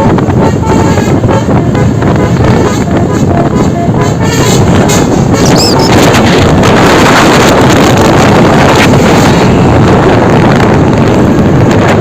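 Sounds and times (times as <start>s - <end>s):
bus engine and road noise: 0.0s - 12.0s
wind buffeting microphone: 0.0s - 12.0s.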